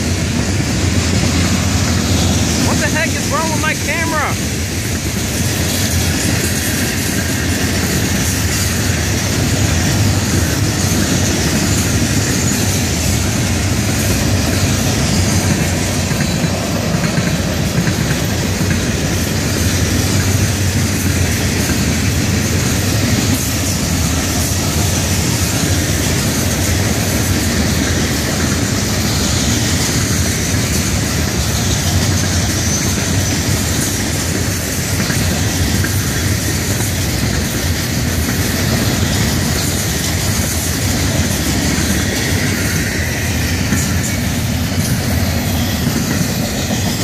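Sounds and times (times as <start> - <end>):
freight train wheels rumbling on rails: 0.0 - 47.0.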